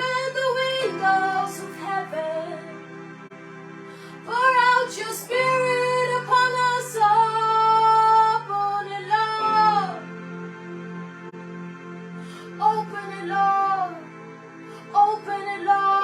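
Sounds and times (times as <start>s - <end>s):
electronic keyboard chords: 0.0s - 16.0s.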